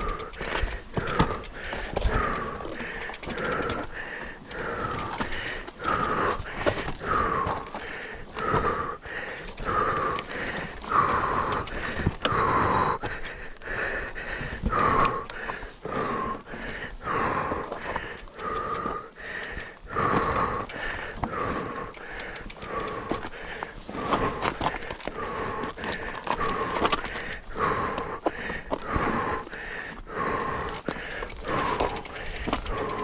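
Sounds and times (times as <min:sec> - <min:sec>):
person panting hard: 0:00.0 - 0:33.0.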